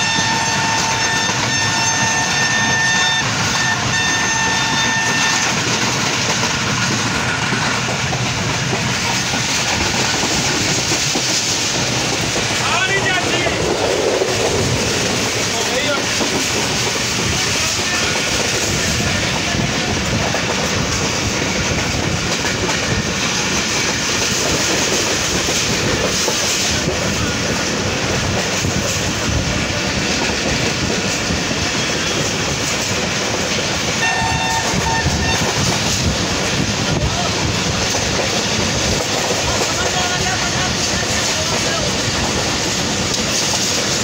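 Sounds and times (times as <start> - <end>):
train wheels clattering on rails: 0.0 - 44.0.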